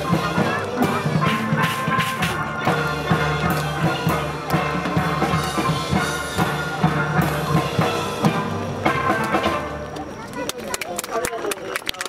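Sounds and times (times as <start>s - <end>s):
steel pan band playing: 0.0s - 10.4s.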